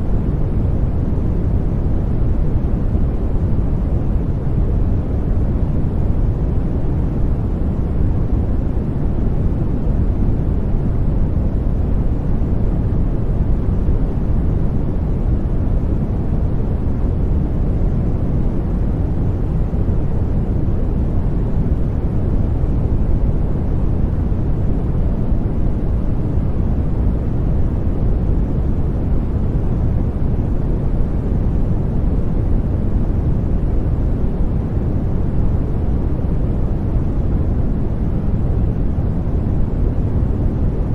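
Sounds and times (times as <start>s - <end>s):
deep white noise: 0.0s - 40.9s.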